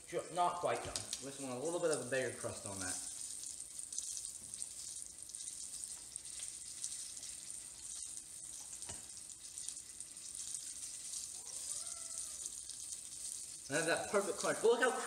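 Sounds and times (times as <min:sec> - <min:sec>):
fish deep-frying in oil: 0:00.0 - 0:15.0.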